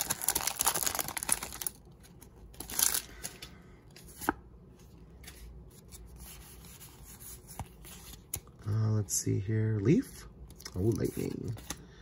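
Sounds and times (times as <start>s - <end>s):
cards rustling: 0.0s - 8.6s, 10.5s - 11.8s.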